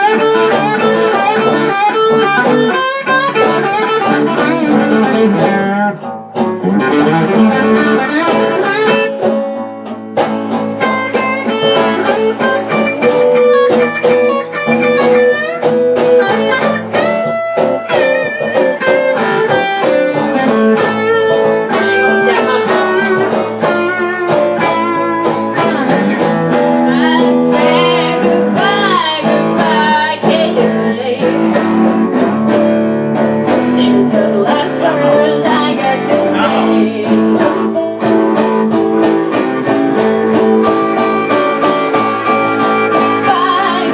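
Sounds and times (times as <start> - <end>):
blues guitar with bent notes: 0.0 - 43.9.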